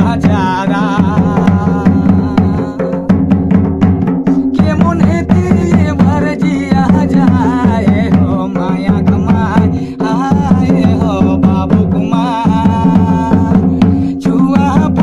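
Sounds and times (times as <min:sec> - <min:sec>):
man singing folk song: 0:00.0 - 0:03.3, 0:04.5 - 0:15.0
hand drum beat: 0:00.0 - 0:15.0.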